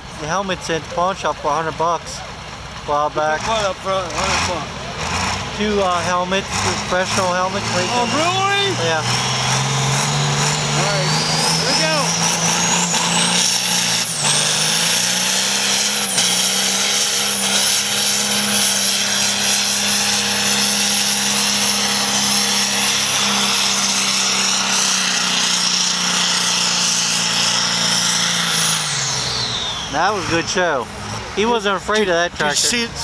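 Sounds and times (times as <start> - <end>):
diesel tractor engine at high revs: 0.0 - 33.0.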